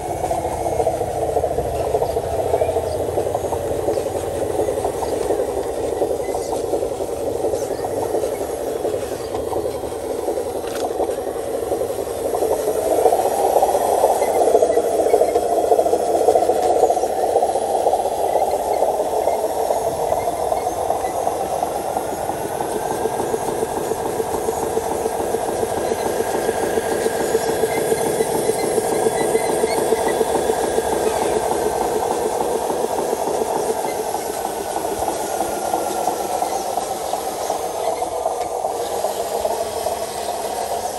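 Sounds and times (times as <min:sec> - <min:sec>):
model truck motor running: 0:00.0 - 0:40.9
thin motor whine: 0:00.0 - 0:40.9.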